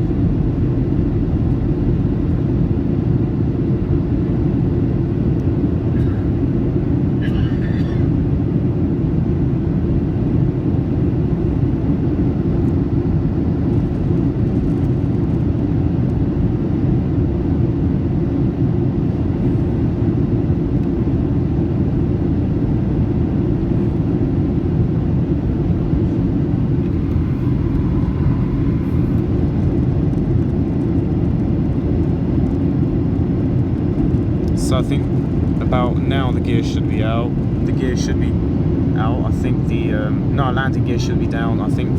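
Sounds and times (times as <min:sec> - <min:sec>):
aircraft cabin engine rumble: 0:00.0 - 0:41.9.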